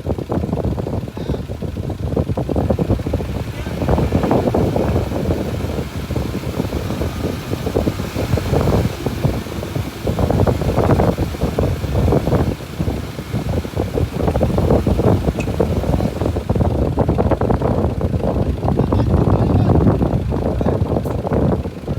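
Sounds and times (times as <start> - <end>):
bulldozer diesel engine rumbling: 0.0 - 21.9.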